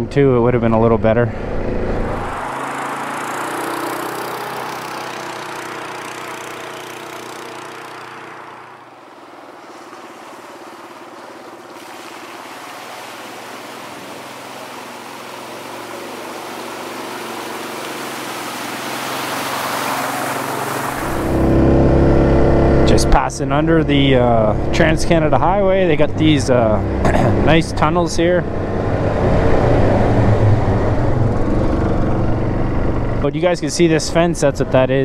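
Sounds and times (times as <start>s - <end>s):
quad bike engine running: 0.6s - 12.7s, 13.3s - 35.0s
quad churning through muddy water: 2.1s - 32.6s.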